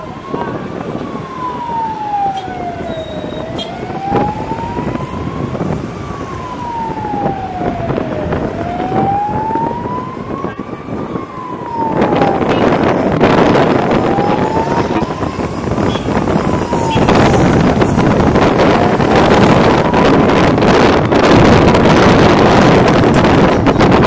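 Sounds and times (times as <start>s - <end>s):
road and traffic noise: 0.0s - 24.0s
vehicle siren wailing: 0.0s - 24.0s
wind noise rushing: 0.0s - 24.0s.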